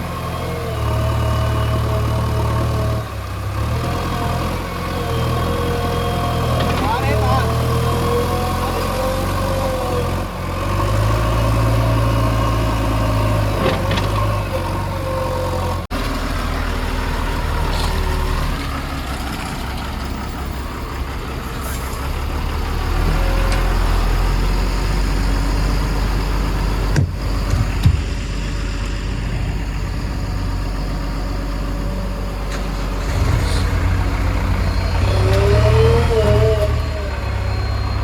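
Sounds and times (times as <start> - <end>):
diesel engine rumbling: 0.0 - 38.0.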